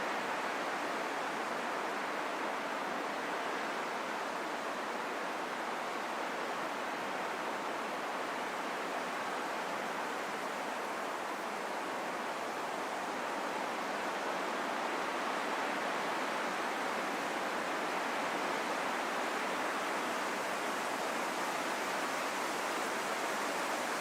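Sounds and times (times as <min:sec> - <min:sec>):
steady rushing wind: 0:00.0 - 0:24.0.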